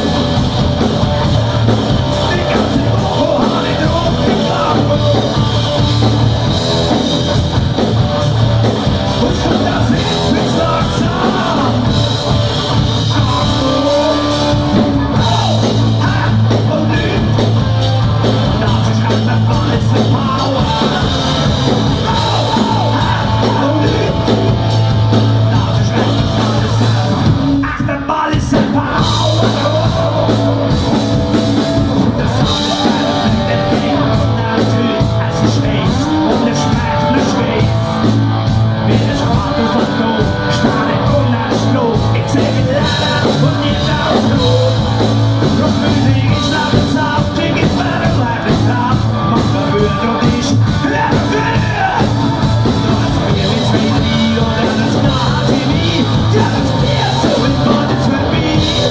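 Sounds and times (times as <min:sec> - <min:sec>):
distorted electric guitars: 0:00.0 - 0:58.9
drums: 0:00.0 - 0:58.9
electric bass: 0:00.0 - 0:58.9
man singing: 0:01.3 - 0:07.6, 0:08.6 - 0:58.9.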